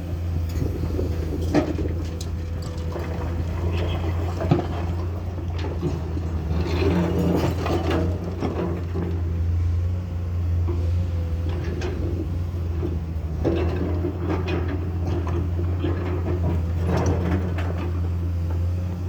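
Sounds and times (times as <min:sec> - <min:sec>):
excavator diesel engine running: 0:00.0 - 0:19.0
excavator bucket clanks and scrapes: 0:00.3 - 0:09.8, 0:10.6 - 0:19.0.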